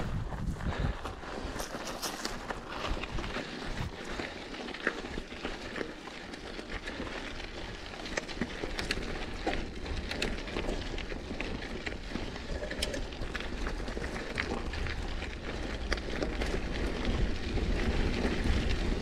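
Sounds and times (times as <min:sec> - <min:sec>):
tyres crunching on dirt: 0:00.0 - 0:19.0
bike clicks and rattles: 0:01.0 - 0:19.0.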